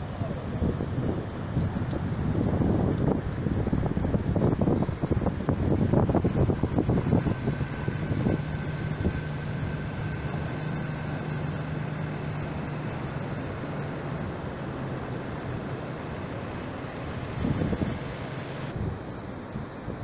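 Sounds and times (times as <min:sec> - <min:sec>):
wind: 0:00.0 - 0:20.0
tractor engine running: 0:01.3 - 0:18.7.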